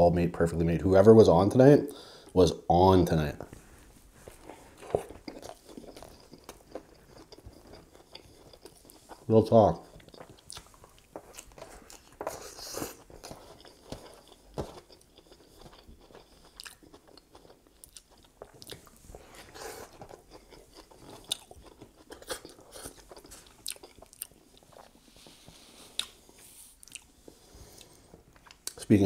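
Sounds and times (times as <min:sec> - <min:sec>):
close chewing mouth sounds: 0:04.2 - 0:28.9.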